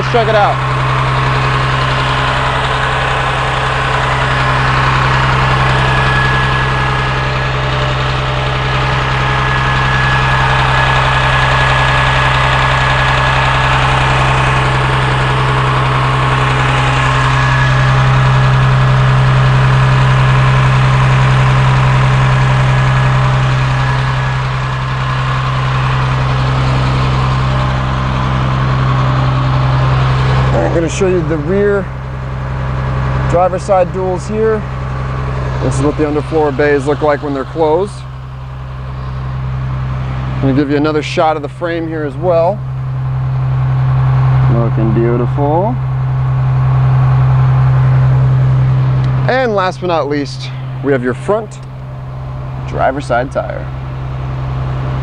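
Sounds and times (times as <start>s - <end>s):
diesel bus engine idling: 0.0s - 55.0s.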